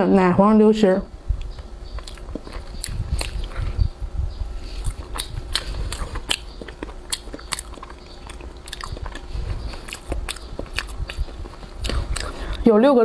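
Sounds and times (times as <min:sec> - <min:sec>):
mouth chewing pastry: 0:01.4 - 0:12.7.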